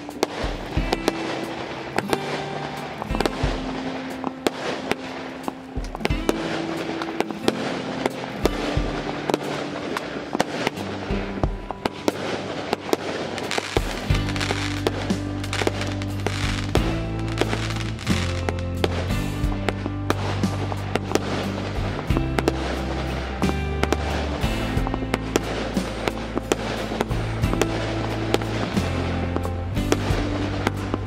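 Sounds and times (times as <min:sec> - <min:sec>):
fireworks bangs and crackling: 0:00.0 - 0:31.0
music: 0:00.0 - 0:31.0.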